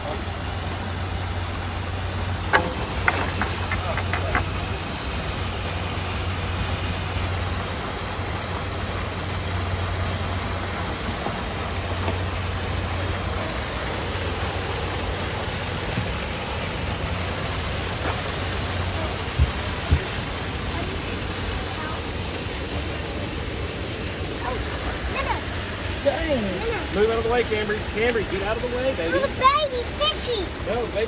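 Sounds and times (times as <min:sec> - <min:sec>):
boat engine idling: 0:00.0 - 0:31.0
rushing water hiss: 0:00.0 - 0:31.0.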